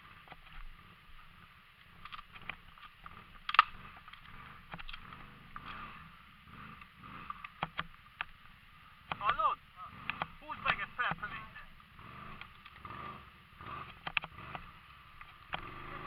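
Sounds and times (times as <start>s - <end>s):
atv engine running quietly: 0.0s - 16.0s.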